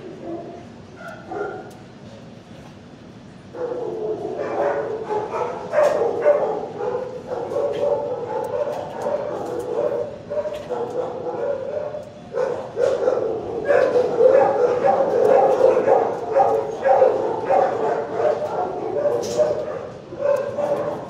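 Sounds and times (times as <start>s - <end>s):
dogs barking and yipping: 0.0s - 1.8s, 3.6s - 21.0s.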